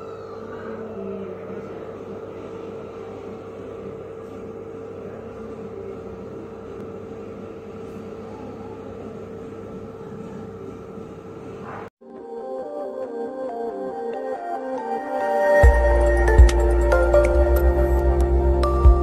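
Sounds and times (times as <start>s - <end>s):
droning hum: 0.0s - 11.9s, 15.6s - 19.0s.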